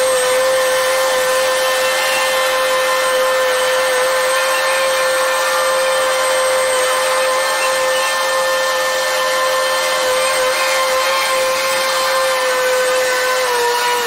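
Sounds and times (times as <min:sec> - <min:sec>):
boat hoist high whine: 0:00.0 - 0:14.0.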